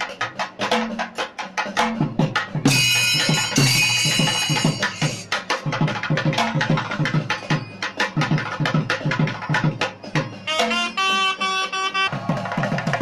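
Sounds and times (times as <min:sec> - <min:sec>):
fast drum strokes: 0:00.0 - 0:11.0, 0:12.1 - 0:13.0.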